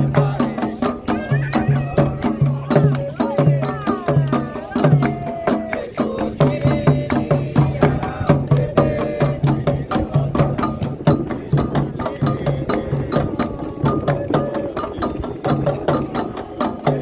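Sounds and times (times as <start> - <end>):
hand drums and percussion: 0.0 - 17.0.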